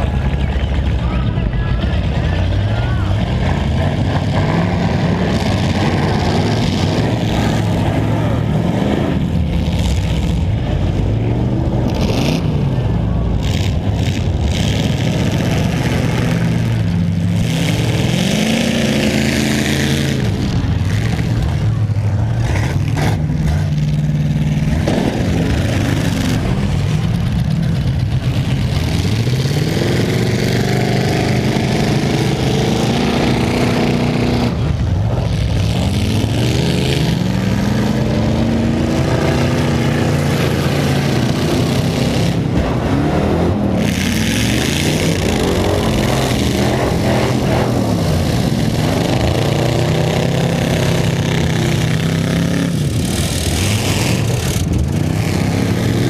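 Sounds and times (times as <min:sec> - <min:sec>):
car engines revving hard: 0:00.0 - 0:56.0
loud steady din: 0:00.0 - 0:56.0.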